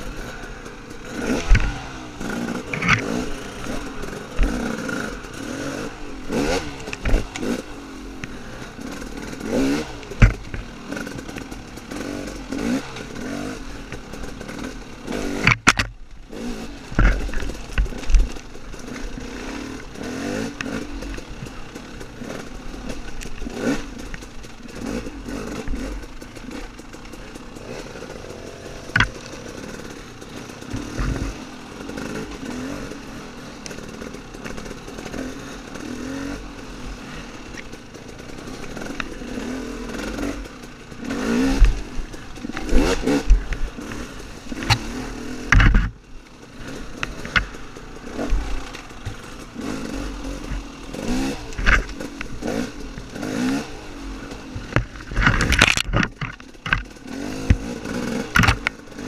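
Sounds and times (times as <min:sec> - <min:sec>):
dirt bike engine revving: 0:00.0 - 0:59.0
knocks and clatter over rough ground: 0:00.0 - 0:59.0.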